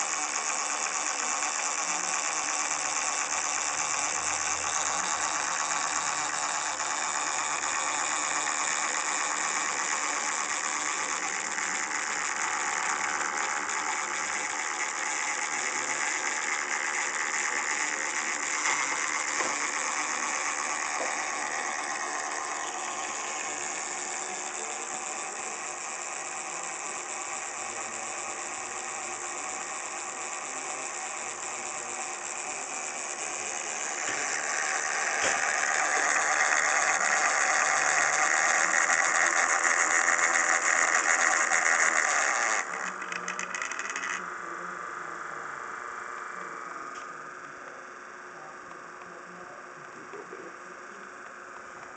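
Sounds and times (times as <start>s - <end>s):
steady mechanical whir: 0.0s - 51.9s.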